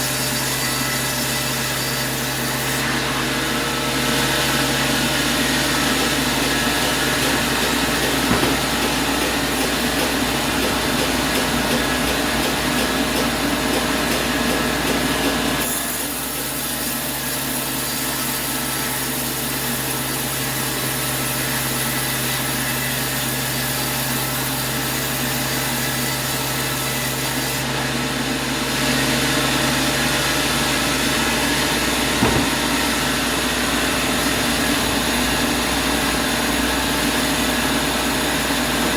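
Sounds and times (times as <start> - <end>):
saw cutting wood: 0.0 - 38.9
sawmill machine hum: 0.0 - 38.9.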